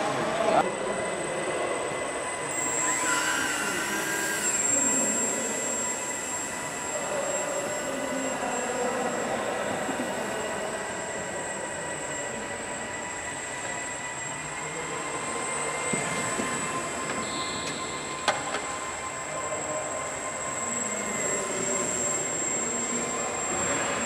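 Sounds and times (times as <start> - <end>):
model plane motor whining: 1.9 - 24.0.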